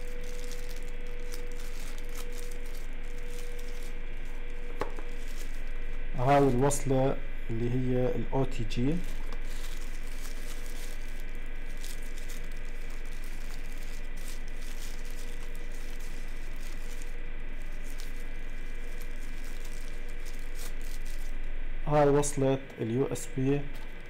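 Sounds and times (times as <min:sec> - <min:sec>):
paper wrapping rustling: 0:00.0 - 0:07.0, 0:08.5 - 0:21.4
faint hum: 0:00.0 - 0:24.0.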